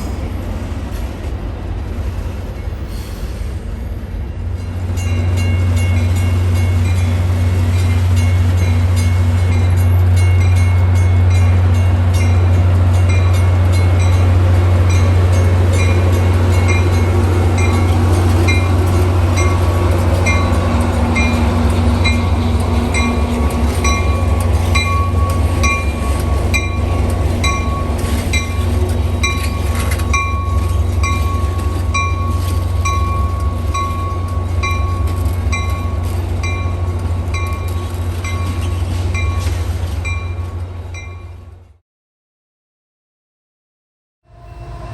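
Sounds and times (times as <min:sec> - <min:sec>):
train rumbling past: 0:00.0 - 0:41.8, 0:44.3 - 0:44.9.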